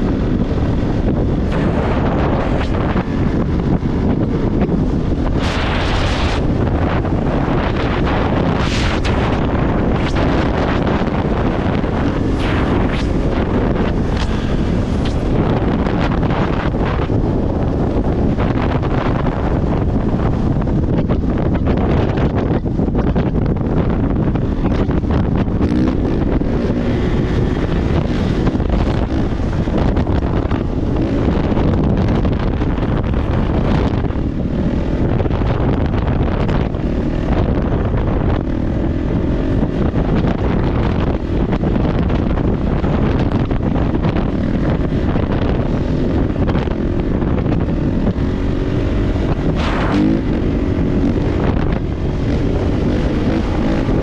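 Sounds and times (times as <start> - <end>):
dirt bike engine revving: 0.0 - 20.3, 23.8 - 42.1, 42.8 - 54.0
wind buffeting microphone: 0.0 - 54.0.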